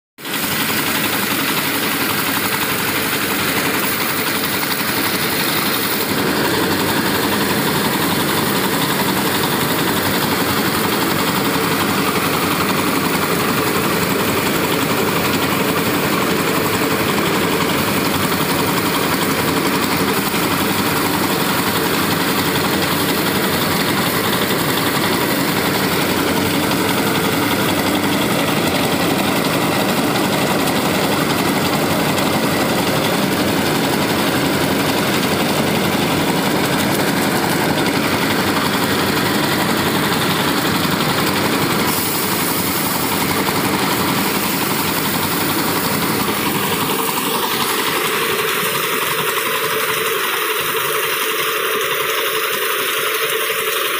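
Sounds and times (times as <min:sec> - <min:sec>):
threshing machine hum and rattle: 0:00.2 - 0:53.9.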